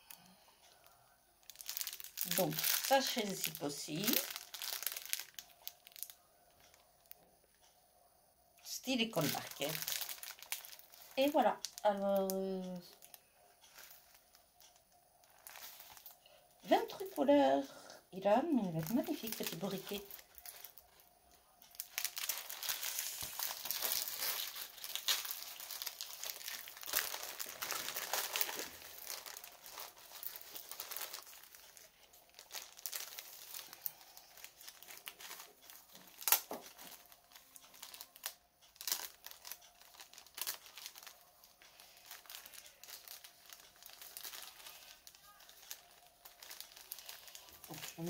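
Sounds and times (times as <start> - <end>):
plastic bags crinkling: 0.0 - 7.2, 8.6 - 48.0.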